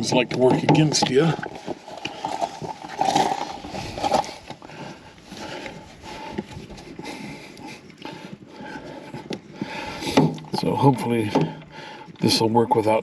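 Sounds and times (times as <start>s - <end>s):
rubbing and fumbling noises: 0.0s - 13.0s.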